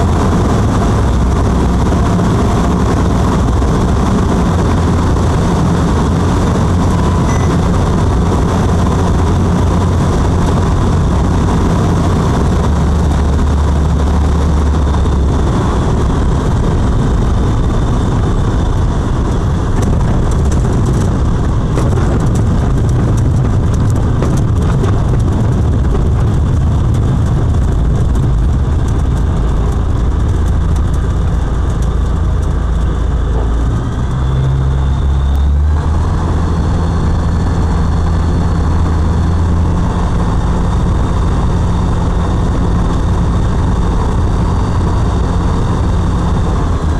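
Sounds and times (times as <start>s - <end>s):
light aircraft engine and propeller: 0.0s - 46.9s.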